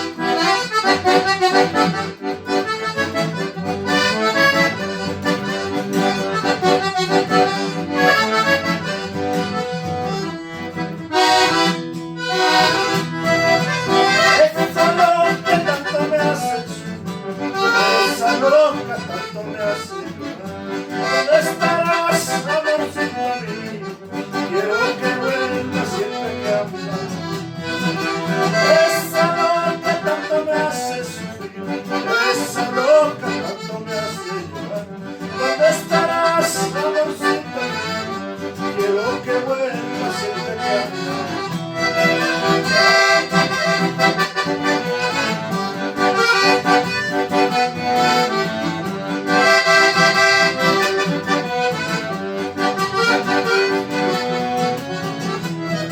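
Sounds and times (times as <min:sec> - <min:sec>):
accordion playing lively melody: 0:00.0 - 0:55.9.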